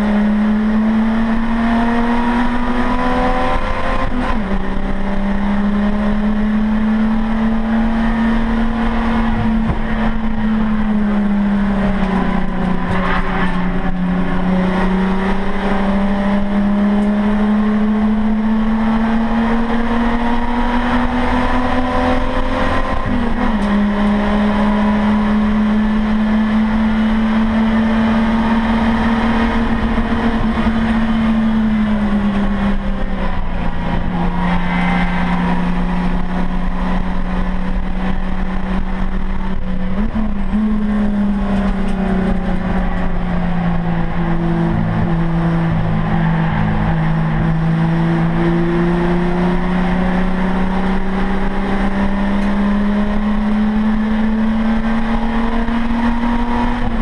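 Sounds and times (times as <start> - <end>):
racing car engine droning: 0.0 - 57.0.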